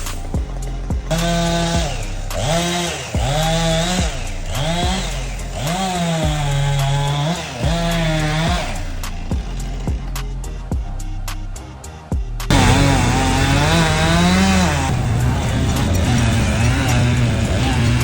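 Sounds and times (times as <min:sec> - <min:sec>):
chainsaw cutting wood: 0:00.0 - 0:10.7, 0:12.5 - 0:18.0.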